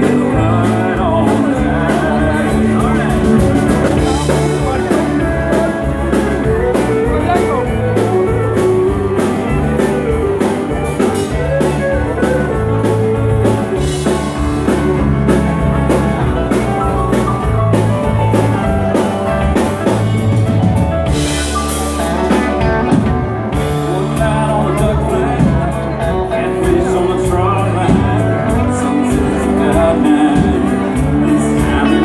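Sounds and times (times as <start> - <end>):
person singing: 0.0 - 17.2, 21.1 - 32.0
rock and roll band playing: 0.0 - 32.0.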